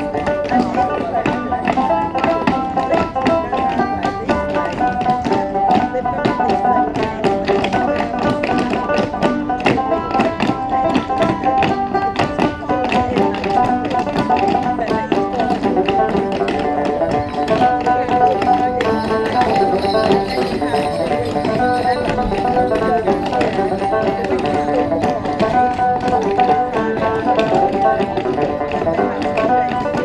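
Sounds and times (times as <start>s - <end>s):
folk music on plucked strings: 0.0s - 30.0s
shoes tapping on wooden board: 0.0s - 30.0s.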